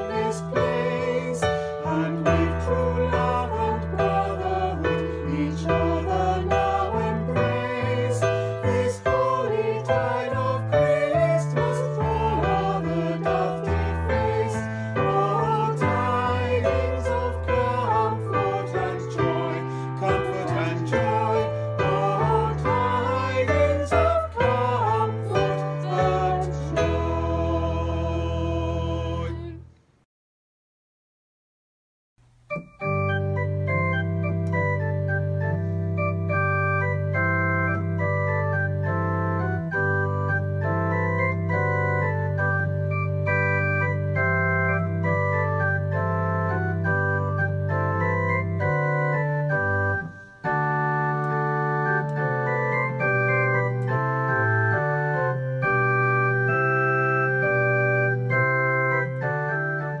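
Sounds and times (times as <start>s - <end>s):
church organ playing: 0.0s - 29.5s, 32.5s - 60.0s.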